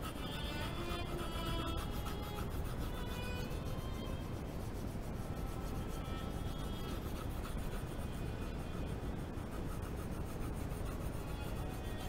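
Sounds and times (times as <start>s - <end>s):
pencil shading on paper: 0.0s - 12.0s.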